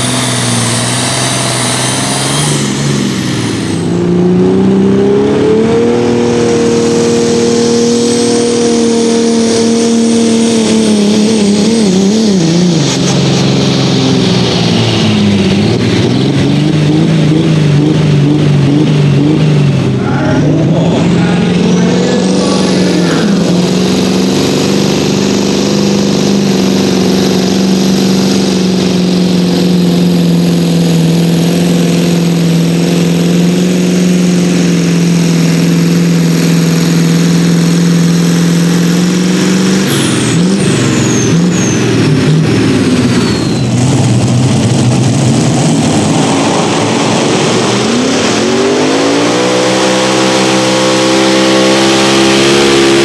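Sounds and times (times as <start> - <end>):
high whine: 0.0 - 53.0
tractor engine at full throttle: 0.0 - 53.0
tractor engine revving up: 0.0 - 53.0.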